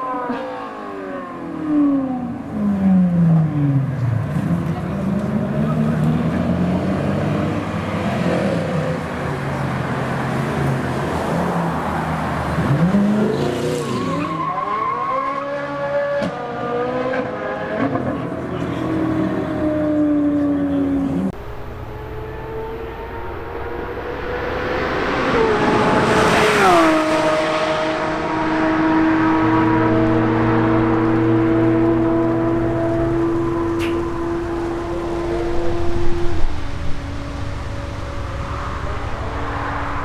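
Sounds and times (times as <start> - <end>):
sports car accelerating with upshifts: 0.0 - 40.0
car passing at speed: 4.2 - 40.0.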